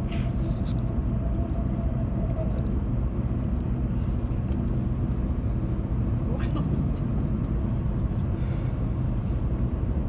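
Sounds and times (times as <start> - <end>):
train rumble inside passenger car: 0.0 - 10.0.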